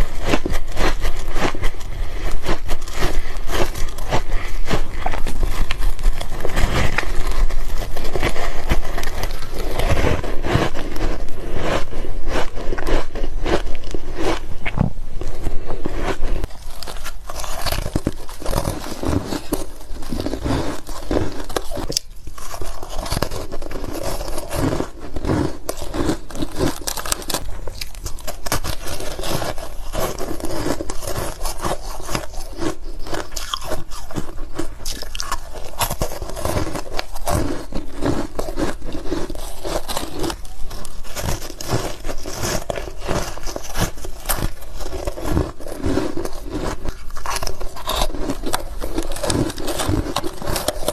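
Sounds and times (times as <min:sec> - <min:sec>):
crunching ice: 0:00.0 - 0:50.9.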